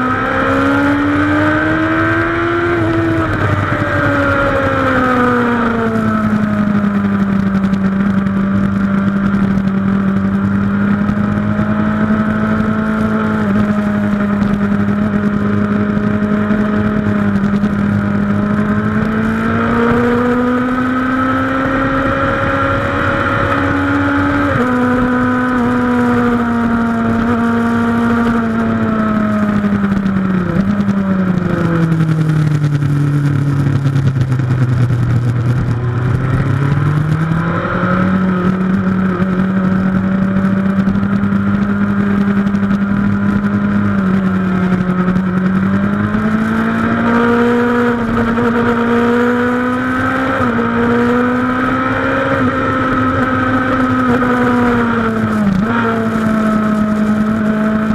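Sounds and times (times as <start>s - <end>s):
motorcycle engine at speed: 0.0s - 57.9s
wind rush: 0.0s - 57.9s.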